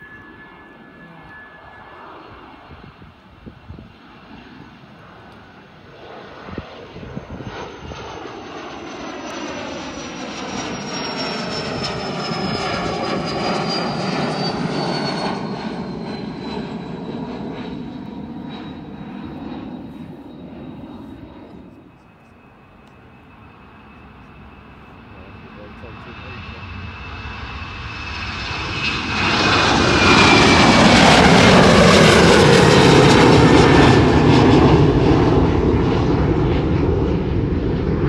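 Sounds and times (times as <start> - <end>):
high engine whine: 0.0 - 38.0
jet flying low overhead: 0.0 - 38.0.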